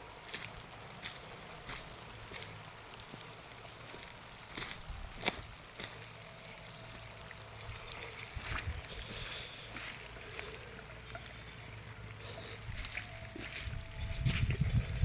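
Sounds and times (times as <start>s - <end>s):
rainwater trickling along ground: 0.0s - 15.0s.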